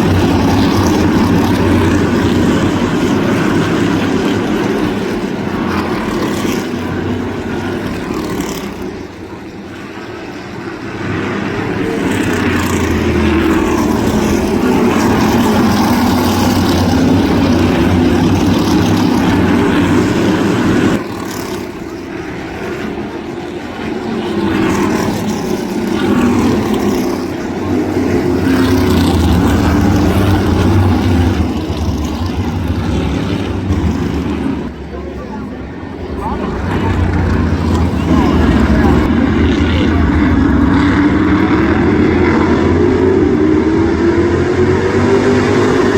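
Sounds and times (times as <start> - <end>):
race car engines passing: 0.0 - 45.9.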